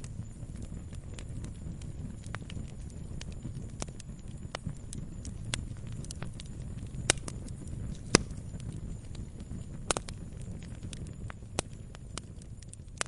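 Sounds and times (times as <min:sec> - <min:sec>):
campfire pops and crackles: 0:00.0 - 0:13.0
low rumble of flames: 0:00.0 - 0:13.0.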